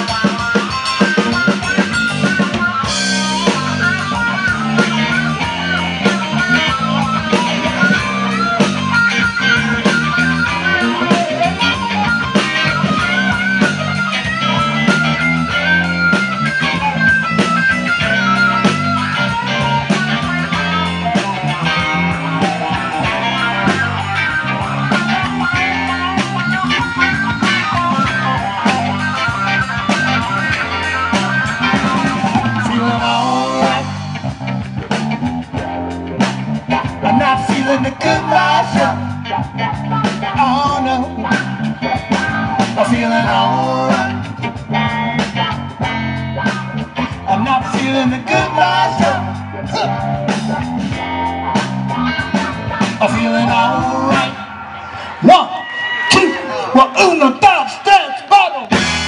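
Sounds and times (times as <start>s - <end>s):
steady drum beat: 0.0s - 54.4s, 56.1s - 59.0s
bass: 0.0s - 59.0s
electric guitar lines: 0.0s - 59.0s.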